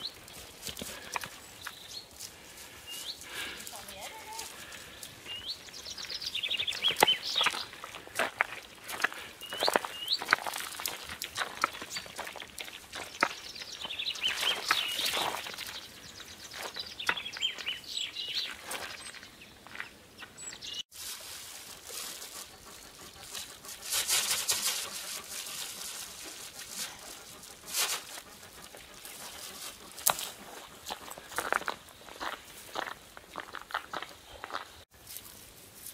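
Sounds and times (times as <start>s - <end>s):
footsteps crunching on snow: 0.0s - 19.9s, 20.9s - 35.9s
birds chirping: 0.0s - 20.9s, 21.6s - 34.8s.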